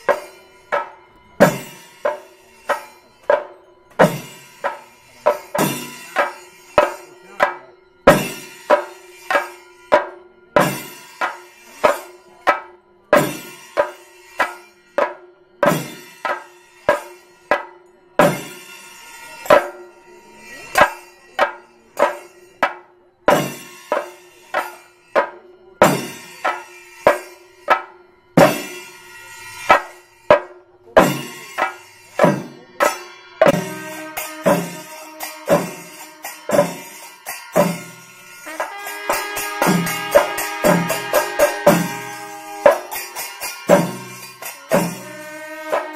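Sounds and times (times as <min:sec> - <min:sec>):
drums struck with sticks: 0:00.0 - 0:18.8, 0:19.4 - 0:19.9, 0:20.7 - 0:45.9.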